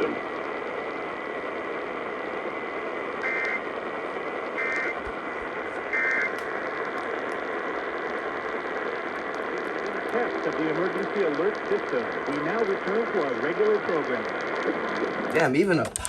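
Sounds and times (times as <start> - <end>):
radio hiss: 0.0 - 16.0.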